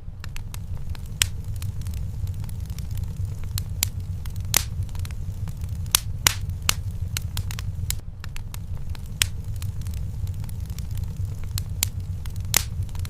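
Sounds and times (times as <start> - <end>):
burning logs crackling and popping: 0.0 - 13.0
low rumble of flames: 0.0 - 13.0
loud wood snaps: 0.2 - 13.0.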